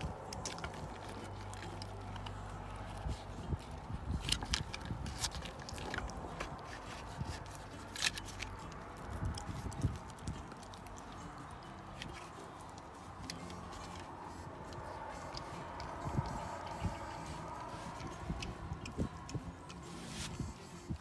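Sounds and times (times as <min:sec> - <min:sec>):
dog chewing rawhide: 0:00.0 - 0:21.0.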